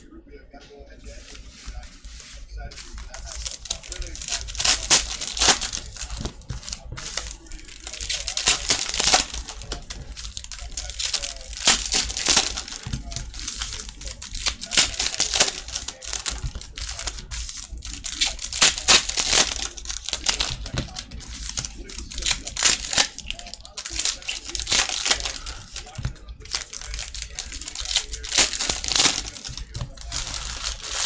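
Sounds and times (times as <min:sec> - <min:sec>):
cards being handled: 0:01.0 - 0:31.0
foil wrappers tearing and crinkling: 0:02.8 - 0:31.0.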